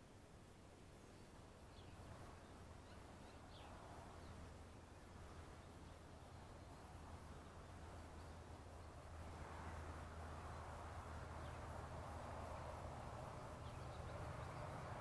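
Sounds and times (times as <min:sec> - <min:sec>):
low even hiss: 0:00.0 - 0:15.0.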